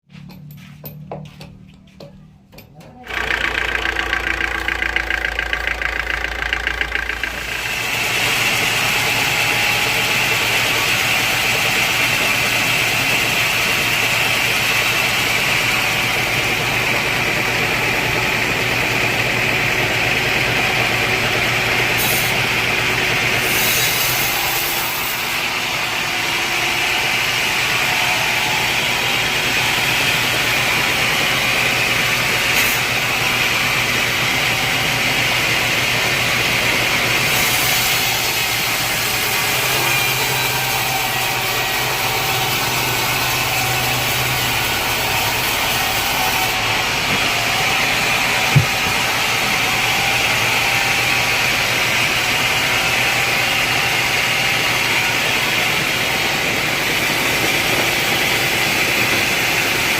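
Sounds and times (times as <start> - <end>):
sawmill machinery running: 0.1 - 59.9.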